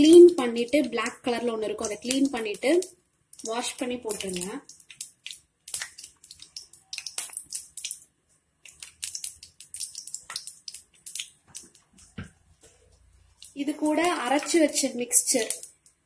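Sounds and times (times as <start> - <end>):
florets crackling on a plate: 0.0 - 12.2, 13.2 - 15.9.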